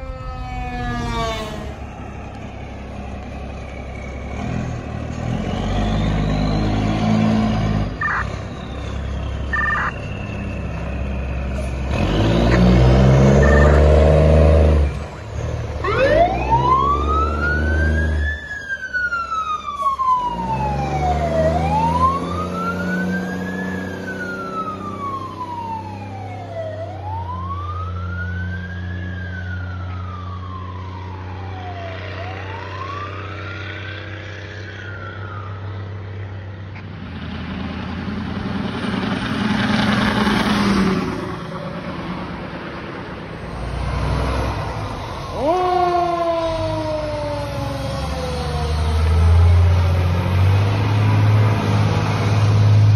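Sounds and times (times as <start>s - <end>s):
fire truck siren wailing: 0.0s - 36.7s, 38.2s - 52.9s
truck engine rumbling: 0.0s - 52.9s.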